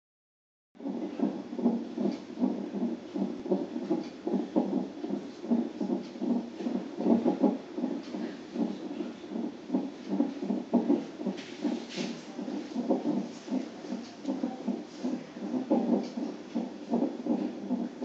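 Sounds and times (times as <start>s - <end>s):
whooshing heartbeat pulse: 0.8s - 18.0s.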